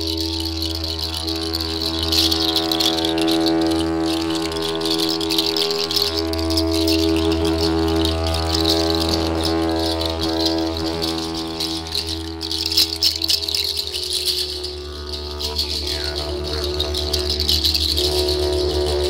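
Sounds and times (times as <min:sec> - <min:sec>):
didgeridoo droning: 0:00.0 - 0:19.0
rattles shaken: 0:00.0 - 0:19.0.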